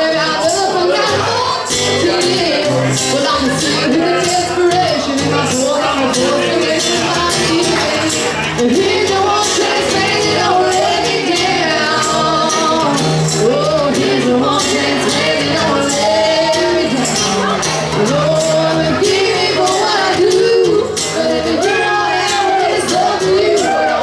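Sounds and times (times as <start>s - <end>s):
person singing: 0.0s - 24.0s
strummed acoustic guitar: 0.0s - 24.0s
hand percussion beat: 0.3s - 24.0s.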